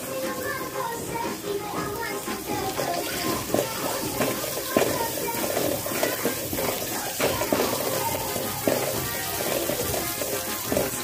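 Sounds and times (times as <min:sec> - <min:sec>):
food sizzling in hot oil: 0:00.0 - 0:11.0
metal ladle scraping a pan: 0:00.2 - 0:11.0.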